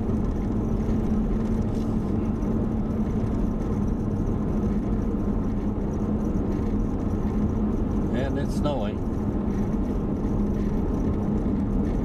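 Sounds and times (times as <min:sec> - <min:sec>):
car engine and road noise: 0:00.0 - 0:12.0
constant low hum: 0:00.0 - 0:12.0.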